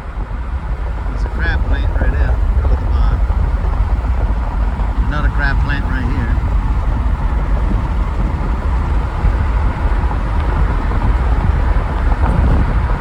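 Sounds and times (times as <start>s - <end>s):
moving vehicle rumble: 0.0s - 13.0s
road and wind noise: 0.0s - 13.0s.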